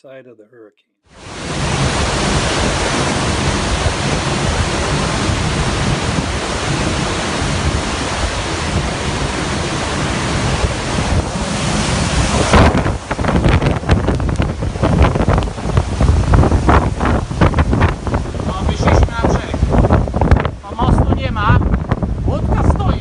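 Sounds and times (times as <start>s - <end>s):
wind blasting microphone: 1.1s - 23.0s.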